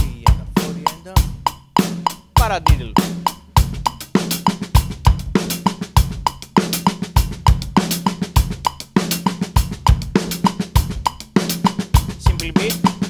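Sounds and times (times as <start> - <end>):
acoustic drum kit groove: 0.0 - 13.0.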